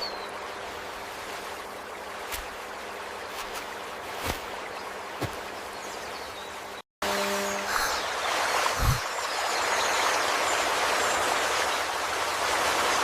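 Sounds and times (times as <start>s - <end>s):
stream water flowing: 0.0s - 6.8s, 7.4s - 13.0s.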